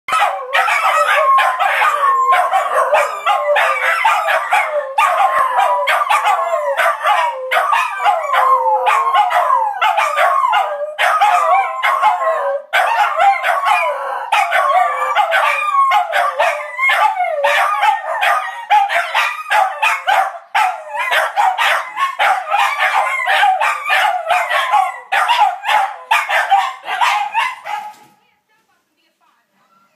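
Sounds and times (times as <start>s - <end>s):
dogs howling together: 0.1s - 27.9s.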